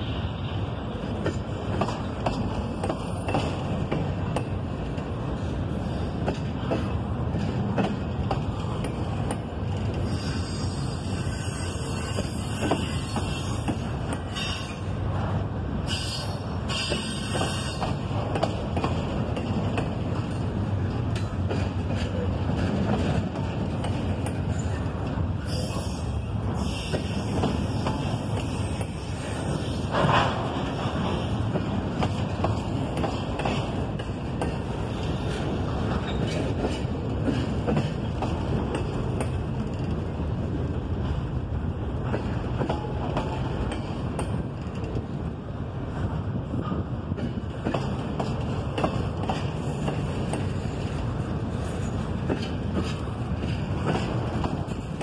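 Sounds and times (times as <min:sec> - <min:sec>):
train cars rumbling past: 0:00.0 - 0:55.0.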